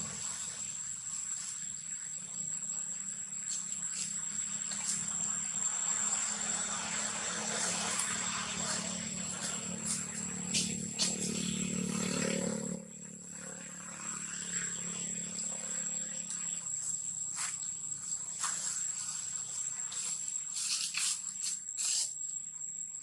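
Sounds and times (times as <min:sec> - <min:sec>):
forest insects droning: 0:00.0 - 0:23.0.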